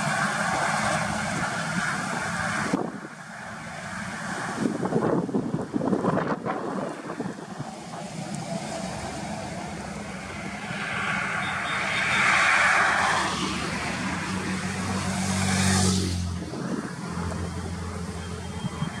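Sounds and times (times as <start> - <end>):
heavy highway traffic passing: 0.0 - 19.0
low engine hum: 0.0 - 19.0.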